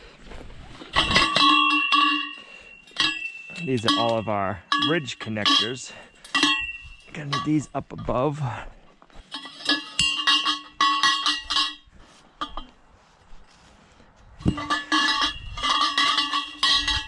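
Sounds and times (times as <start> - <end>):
metal tubes clanking together: 0.7 - 12.8, 14.4 - 17.0.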